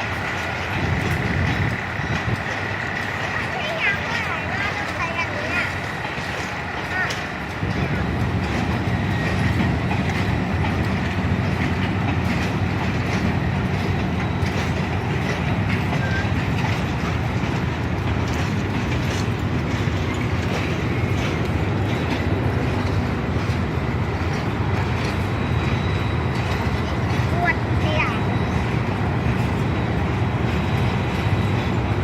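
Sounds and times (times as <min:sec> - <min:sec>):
train rumbling on rails: 0:00.0 - 0:32.0
wheels clicking over track: 0:00.0 - 0:32.0.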